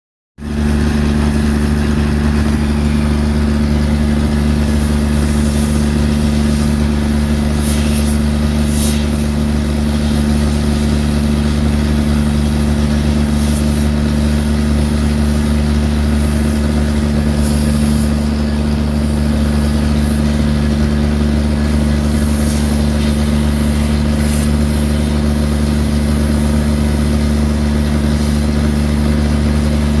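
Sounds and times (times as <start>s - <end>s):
diesel engine running: 0.4s - 30.0s.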